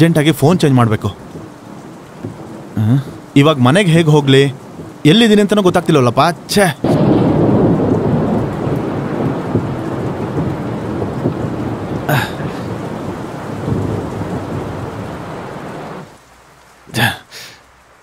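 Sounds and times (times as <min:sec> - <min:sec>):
thunder rumble: 0:00.0 - 0:16.1
heavy rain pouring: 0:00.0 - 0:18.0.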